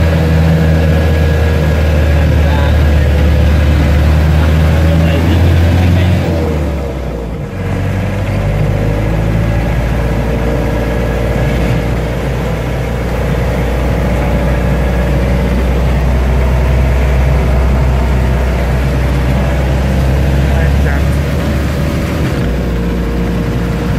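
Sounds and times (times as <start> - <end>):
microbus engine droning: 0.0 - 23.9.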